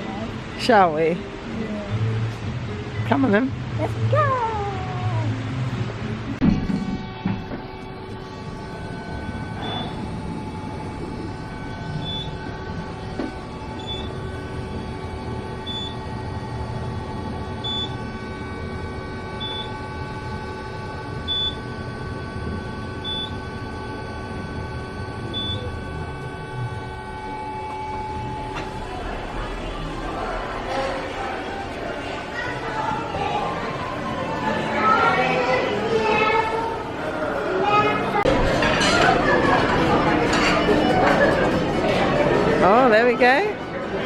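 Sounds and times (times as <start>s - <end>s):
steady mechanical hum: 0.0s - 44.0s.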